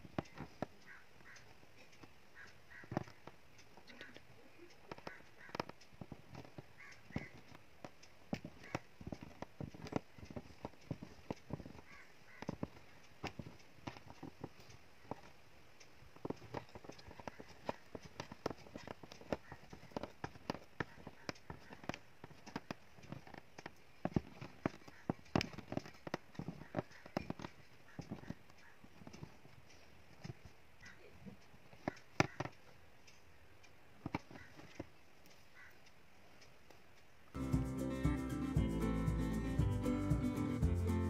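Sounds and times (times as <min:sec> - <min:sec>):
hook tapping through fabric: 0:00.0 - 0:15.4, 0:16.1 - 0:33.2, 0:34.0 - 0:35.7.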